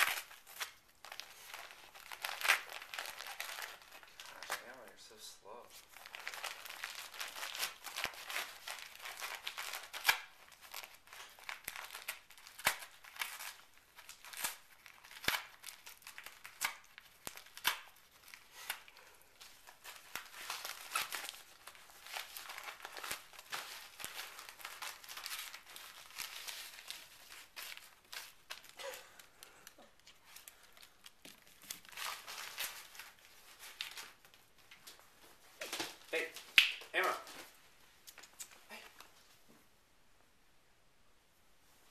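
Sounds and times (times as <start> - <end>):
wrapping paper crinkling and tearing: 0.0 - 5.0, 5.7 - 39.2.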